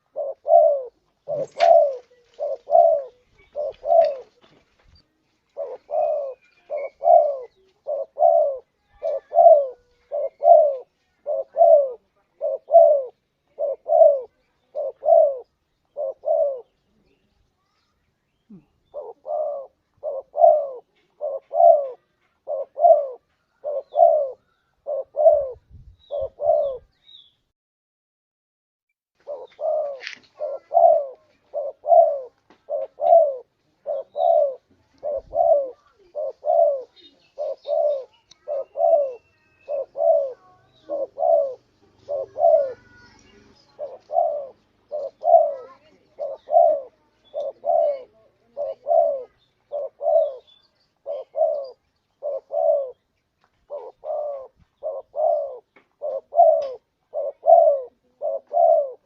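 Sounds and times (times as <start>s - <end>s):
dove cooing: 0.0s - 4.6s, 5.4s - 17.3s, 18.5s - 27.0s, 29.2s - 59.0s.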